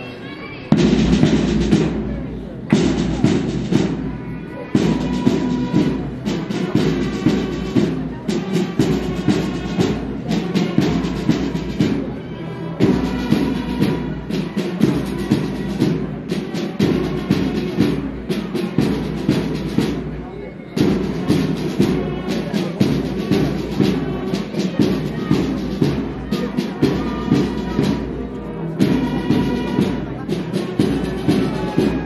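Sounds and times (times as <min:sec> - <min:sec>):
drum beats: 0:00.7 - 0:32.0
marching band playing: 0:00.7 - 0:32.0.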